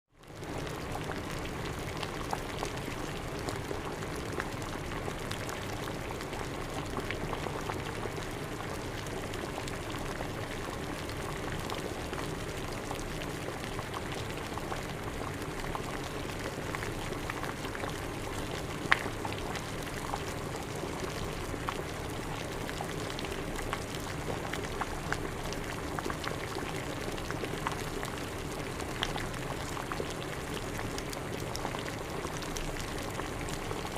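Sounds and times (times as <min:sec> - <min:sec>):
boiling water bubbling: 0:00.2 - 0:33.9.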